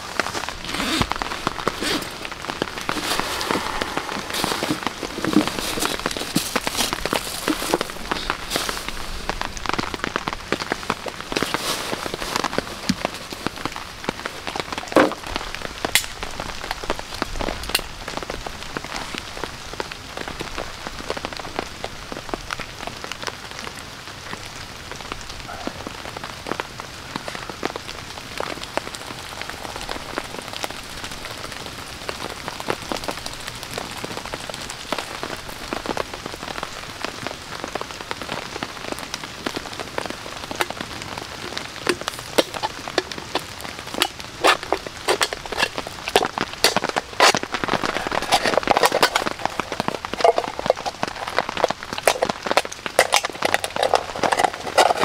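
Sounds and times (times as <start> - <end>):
rain hissing: 0.0 - 55.0
raindrops tapping on tarp: 0.0 - 55.0.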